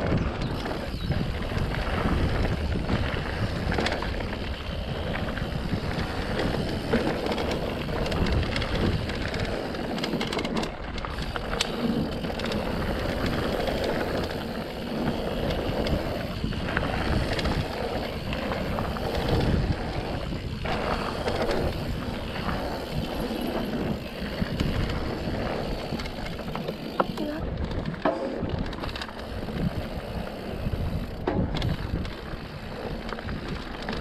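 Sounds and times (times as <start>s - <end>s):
bike knocks and rattles: 0.0s - 34.0s
tyre and wind rush: 0.0s - 34.0s.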